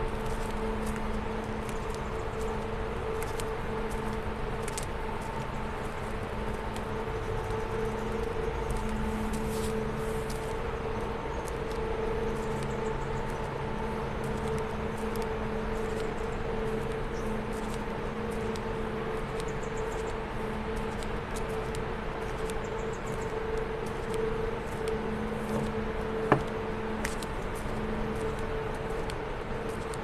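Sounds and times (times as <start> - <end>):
power plant machinery hum: 0.0 - 30.0.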